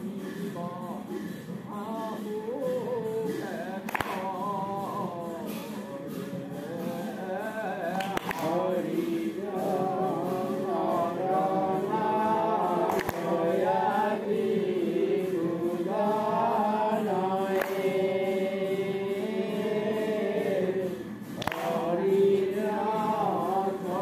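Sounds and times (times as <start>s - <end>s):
voices chanting together: 0.0s - 24.0s.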